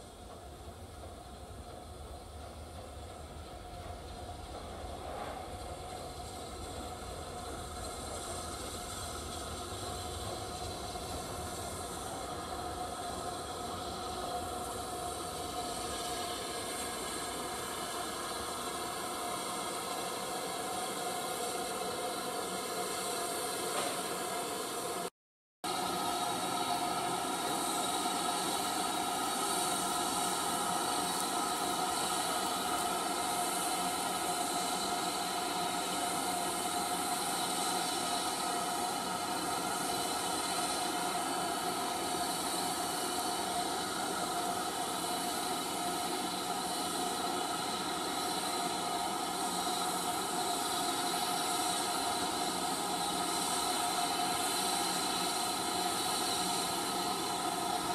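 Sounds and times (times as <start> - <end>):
steam train hissing: 0.0 - 57.9.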